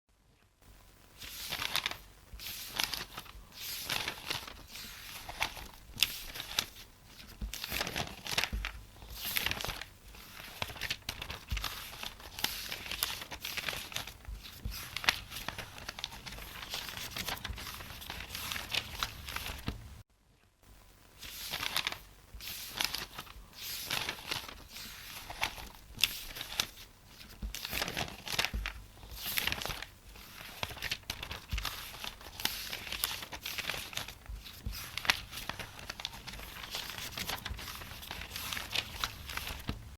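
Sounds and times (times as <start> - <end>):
book pages being turned: 1.2 - 20.0, 21.2 - 39.9.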